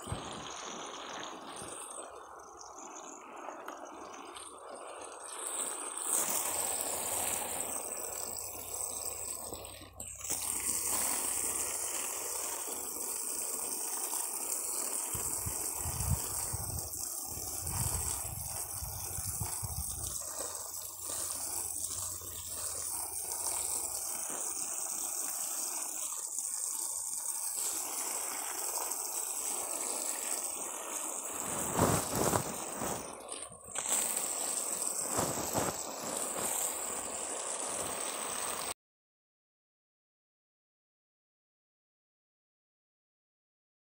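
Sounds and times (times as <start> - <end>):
water gushing onto plants: 0.0 - 38.8.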